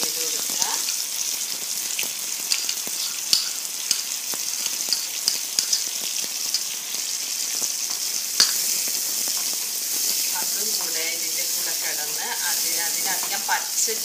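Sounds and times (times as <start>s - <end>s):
paste sizzling in hot oil: 0.0s - 14.0s.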